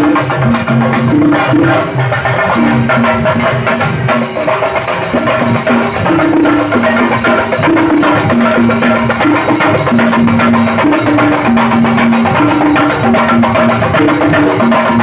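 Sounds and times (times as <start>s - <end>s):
dhol drumming: 0.0s - 15.0s.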